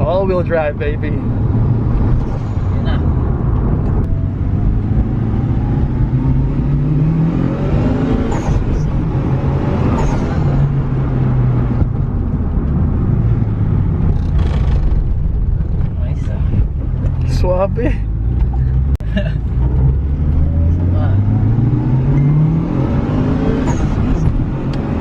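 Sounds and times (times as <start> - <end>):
car engine accelerating: 0.3 - 25.0.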